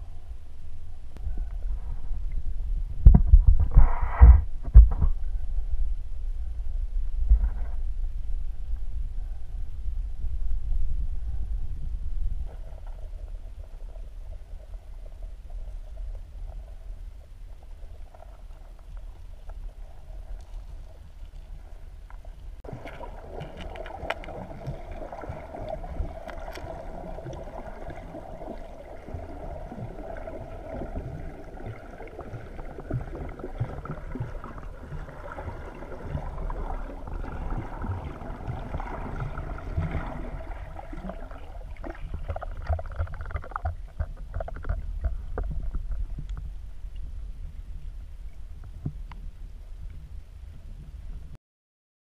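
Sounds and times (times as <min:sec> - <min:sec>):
muffled underwater sloshing: 0:00.0 - 0:51.3.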